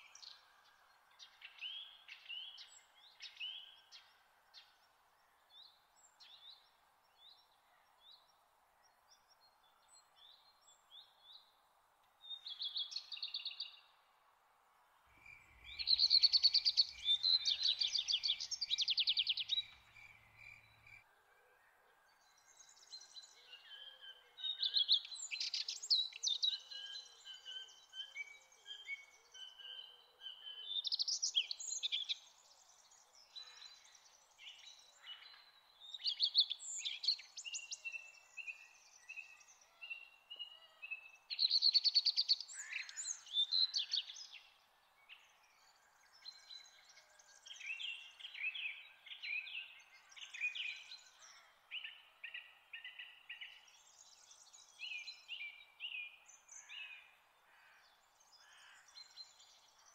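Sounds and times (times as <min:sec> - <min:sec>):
faint background hiss: 0:00.0 - 0:59.9
songbirds trilling and chirping: 0:00.0 - 0:59.9.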